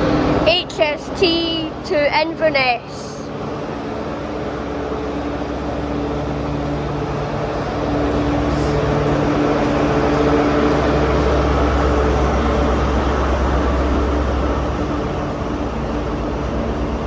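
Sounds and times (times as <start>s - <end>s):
diesel train engine humming: 0.0s - 17.0s.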